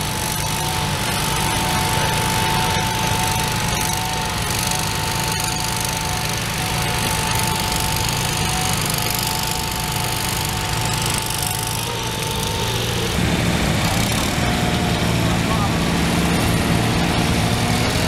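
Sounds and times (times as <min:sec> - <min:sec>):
garden tractor engine running: 0:00.0 - 0:18.0.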